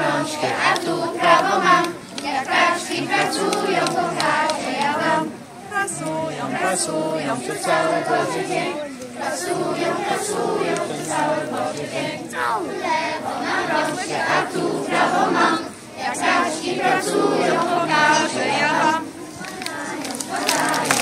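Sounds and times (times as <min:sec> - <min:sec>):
children singing in chorus: 0:00.0 - 0:21.0.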